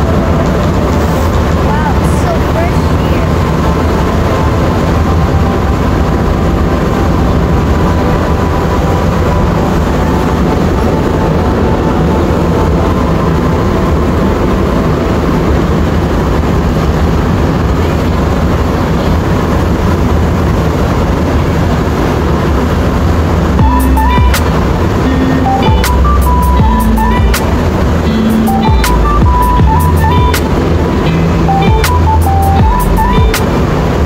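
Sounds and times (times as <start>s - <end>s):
faint steady whine: 0.0s - 34.0s
train rumbling through tunnel: 0.0s - 34.0s.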